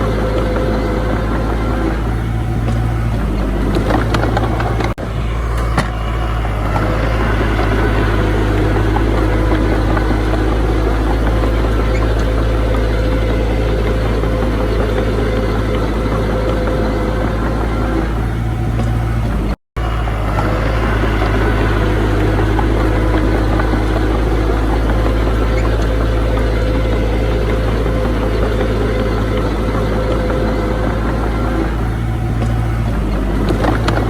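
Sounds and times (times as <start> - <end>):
heavy diesel engine rumbling: 0.0 - 34.0.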